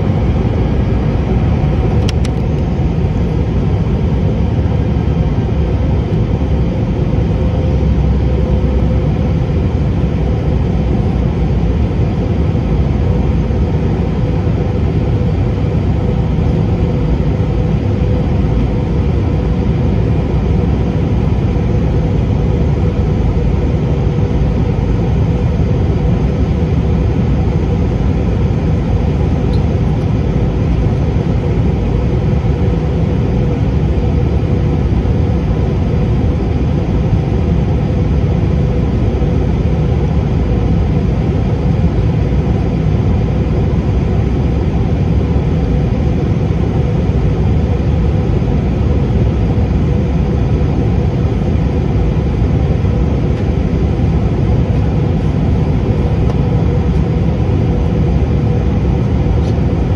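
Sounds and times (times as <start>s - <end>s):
jet engines and rushing airflow: 0.0s - 59.9s.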